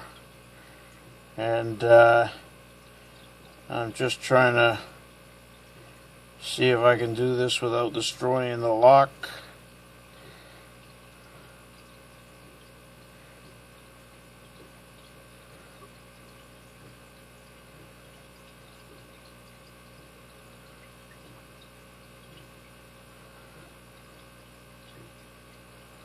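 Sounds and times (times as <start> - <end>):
faint background hum and hiss: 0.0 - 26.0.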